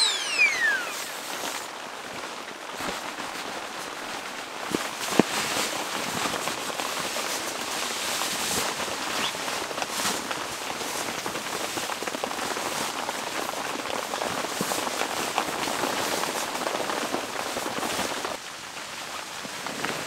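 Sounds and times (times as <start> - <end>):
nylon sleeping bag rustling: 0.0 - 18.4.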